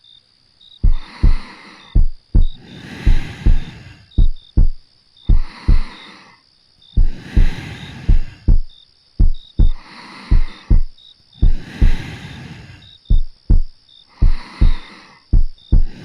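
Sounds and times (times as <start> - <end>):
heartbeat thumping: 0.8 - 5.9, 7.0 - 12.1, 13.1 - 16.0
soft slow breaths: 0.8 - 16.0.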